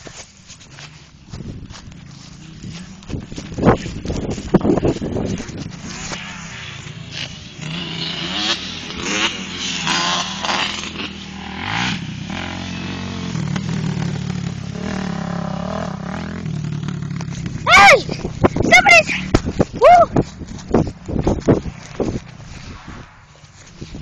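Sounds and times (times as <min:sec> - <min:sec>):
atv engines revving: 0:00.5 - 0:24.0.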